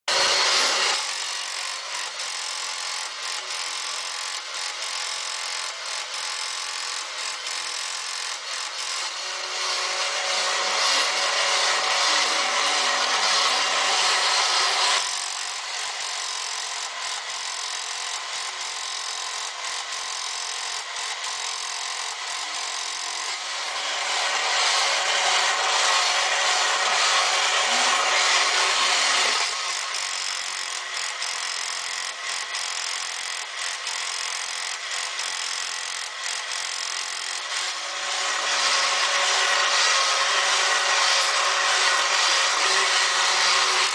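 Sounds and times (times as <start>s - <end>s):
toy robot gears whirring: 0.1s - 43.9s.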